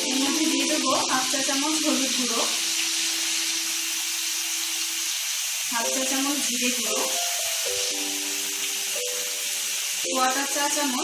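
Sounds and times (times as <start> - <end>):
background music melody: 0.0 - 11.0
vegetables frying in oil: 0.0 - 11.0.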